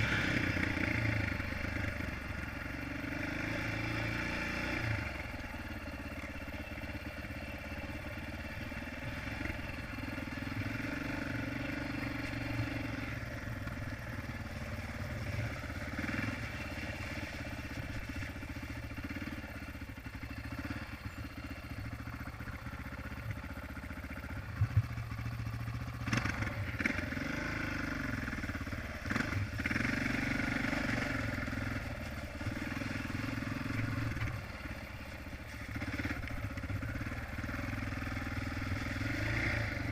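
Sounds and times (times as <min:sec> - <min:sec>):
dirt bike engine revving: 0:00.0 - 0:05.8, 0:06.9 - 0:19.6, 0:24.0 - 0:39.9.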